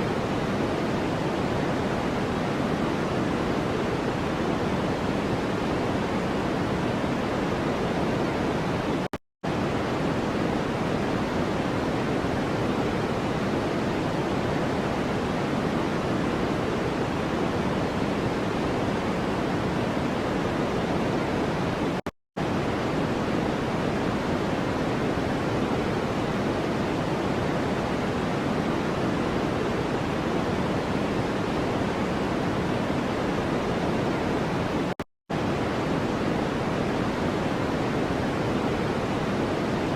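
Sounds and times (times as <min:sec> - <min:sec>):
steady generated noise hiss: 0:00.0 - 0:39.9.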